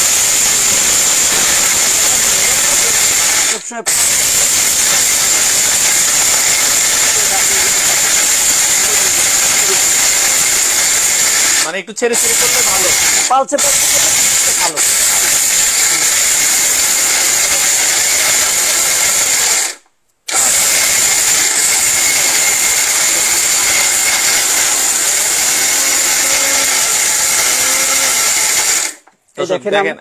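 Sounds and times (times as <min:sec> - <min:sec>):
mixer grinder motor grinding: 0:00.0 - 0:29.1.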